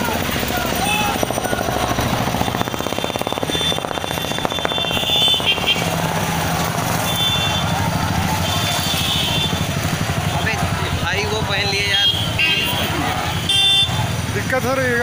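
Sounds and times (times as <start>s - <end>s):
crowd of voices: 0.0s - 15.0s
motorcycle engines running: 0.0s - 15.0s.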